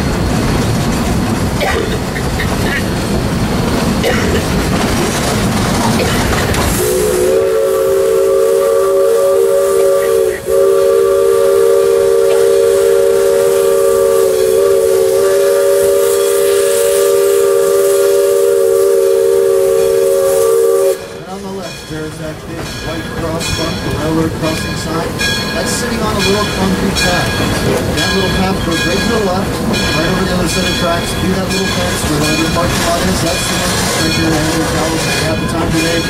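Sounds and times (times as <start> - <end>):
train running rumble: 0.0 - 36.0
steam locomotive chime whistle: 6.8 - 36.0.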